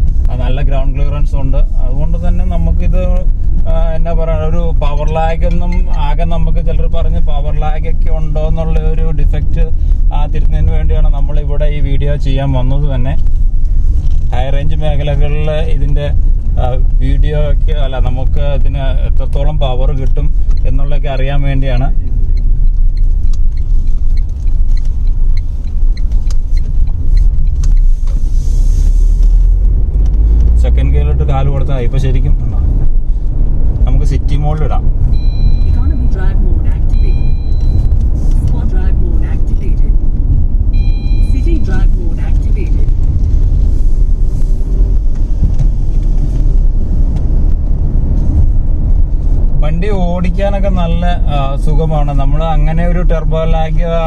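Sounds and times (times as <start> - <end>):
light regular ticking: 0.0 - 28.2, 29.2 - 51.0
car engine rumble inside cabin: 0.0 - 54.0.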